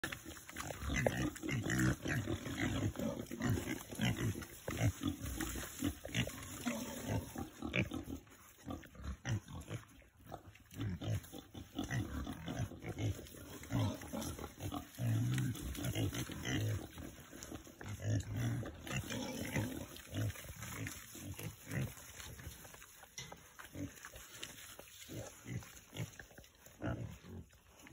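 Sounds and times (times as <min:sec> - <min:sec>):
pigs grunting: 0:00.0 - 0:27.9.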